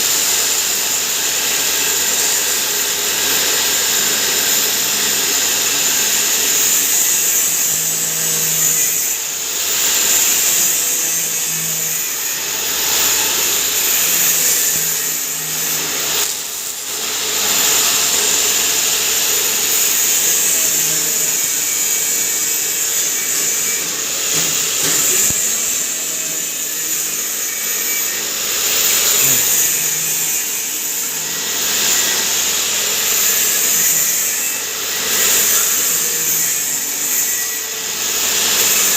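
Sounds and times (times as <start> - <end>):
grinding mill running: 0.0 - 38.9.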